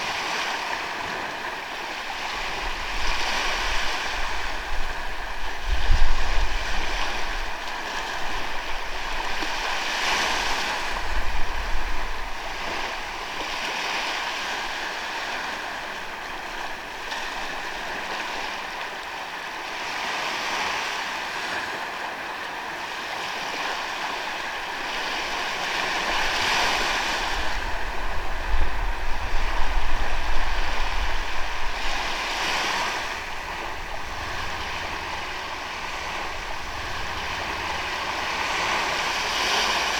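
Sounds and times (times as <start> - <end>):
wind rumbling on microphone: 0.0 - 18.8, 23.4 - 39.9
ocean waves washing on beach: 0.0 - 39.9.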